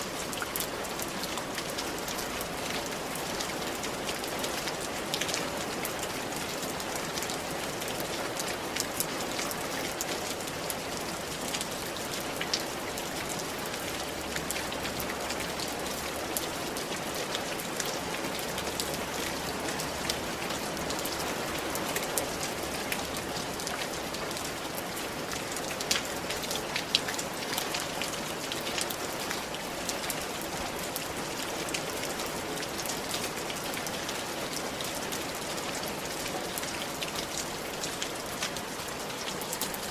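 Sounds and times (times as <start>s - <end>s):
rain on a tile roof: 0.0s - 39.9s.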